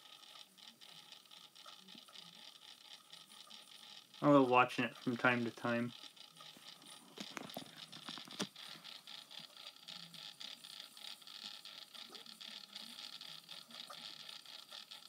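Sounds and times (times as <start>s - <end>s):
rapid fine ticking: 0.0s - 15.0s
small motor whirring: 0.0s - 15.0s.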